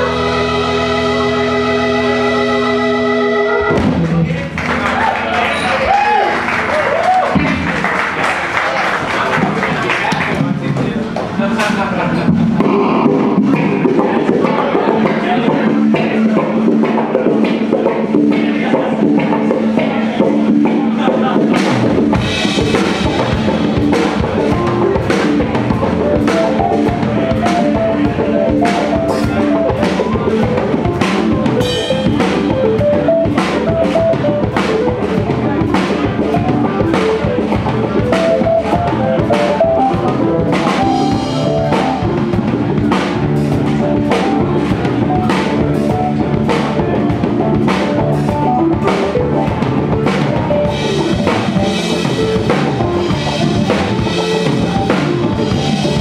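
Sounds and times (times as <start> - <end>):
drum kit beat: 0.0 - 5.3, 5.9 - 8.2, 9.3 - 56.0
electric guitar: 0.0 - 7.8, 12.2 - 56.0
keyboard melody: 0.0 - 7.8, 12.4 - 56.0
bass: 0.0 - 56.0.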